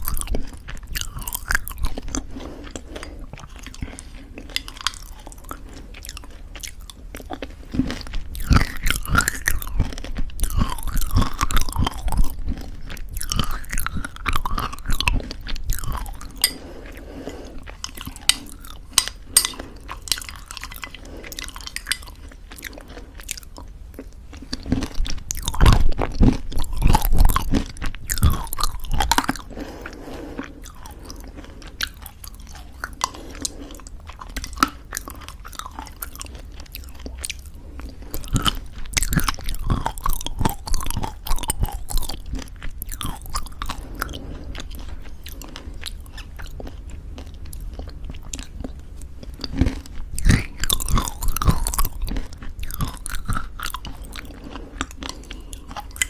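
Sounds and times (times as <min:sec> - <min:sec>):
crunchy chewing: 0:00.0 - 0:56.0
wet chewing: 0:00.0 - 0:56.0.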